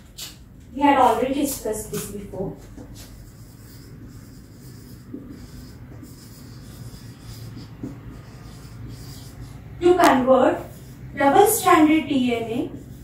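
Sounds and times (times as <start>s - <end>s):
marker pen writing on whiteboard: 0.0s - 13.0s.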